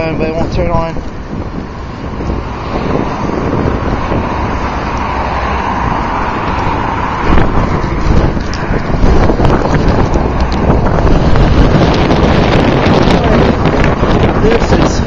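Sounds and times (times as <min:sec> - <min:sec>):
road traffic rush: 0:00.0 - 0:15.0
wind buffeting microphone: 0:00.0 - 0:15.0.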